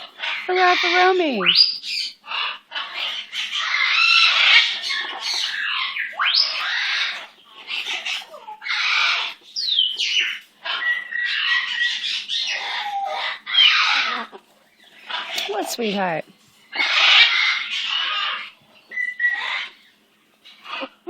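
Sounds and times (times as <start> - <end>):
parrot squawking and chattering: 0.0 - 21.0.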